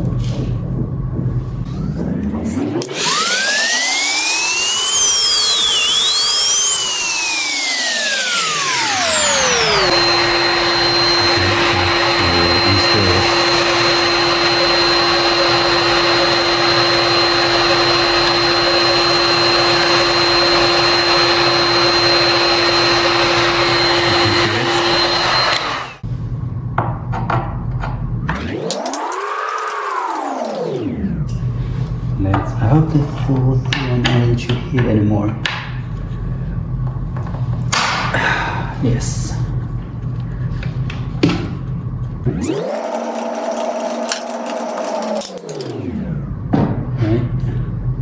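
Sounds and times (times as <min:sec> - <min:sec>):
heat gun fan whining: 0:01.7 - 0:26.1, 0:28.3 - 0:36.1, 0:36.8 - 0:39.3, 0:40.0 - 0:46.6.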